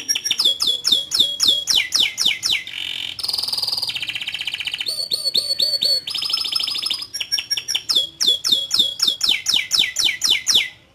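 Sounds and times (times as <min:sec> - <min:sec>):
canary singing: 0:00.0 - 0:10.8.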